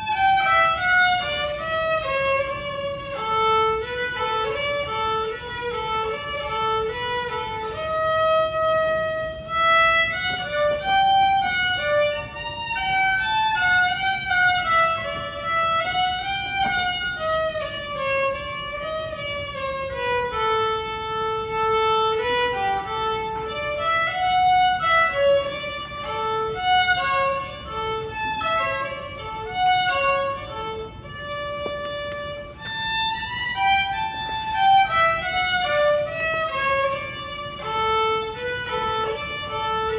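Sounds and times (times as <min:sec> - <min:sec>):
solo violin melody: 0:00.0 - 0:39.9.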